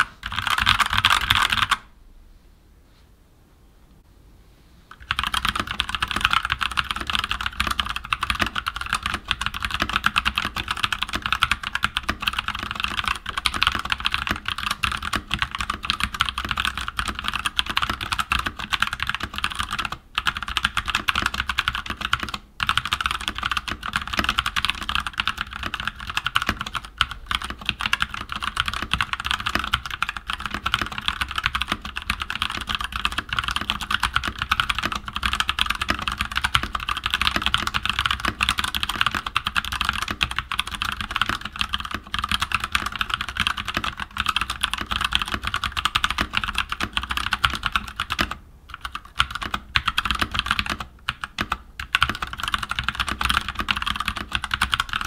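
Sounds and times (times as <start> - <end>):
fast mechanical keyboard typing: 0.0 - 1.9, 4.9 - 55.0.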